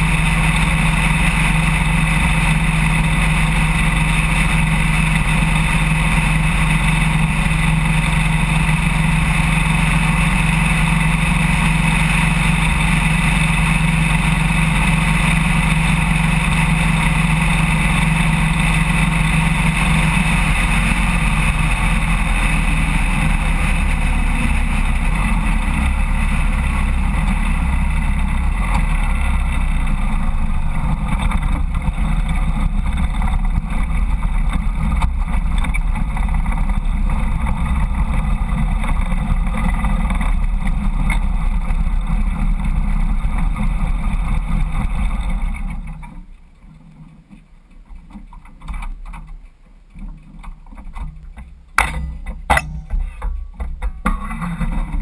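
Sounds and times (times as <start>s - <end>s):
motorcycle engine cruising: 0.0s - 46.2s
wind and road noise: 0.0s - 55.0s.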